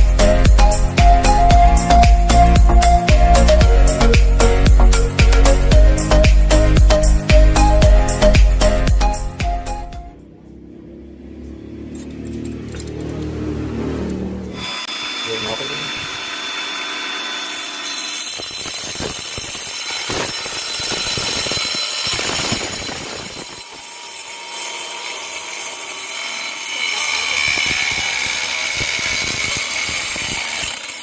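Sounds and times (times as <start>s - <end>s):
electric motor whining: 0.0s - 10.0s, 14.0s - 31.0s.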